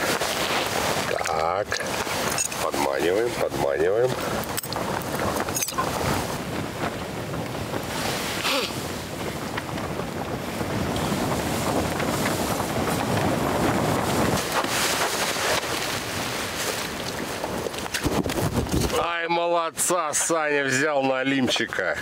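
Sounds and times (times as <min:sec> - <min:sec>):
wind rushing: 0:00.0 - 0:19.1.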